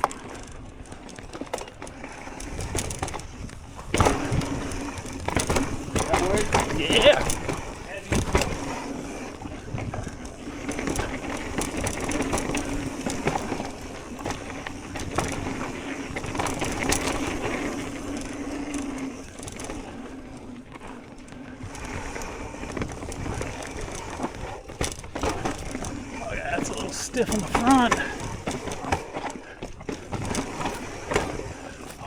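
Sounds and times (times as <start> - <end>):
bike rattling: 0.0 - 32.0
tyres crunching over dirt: 0.0 - 32.0.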